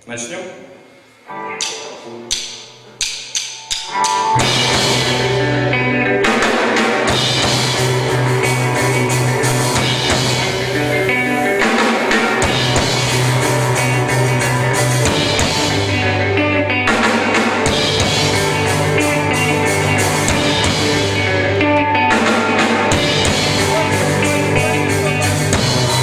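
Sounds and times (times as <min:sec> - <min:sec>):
guitar: 0:00.6 - 0:26.0
drum kit with cymbals: 0:01.6 - 0:16.2, 0:16.9 - 0:26.0
bass notes: 0:04.4 - 0:26.0.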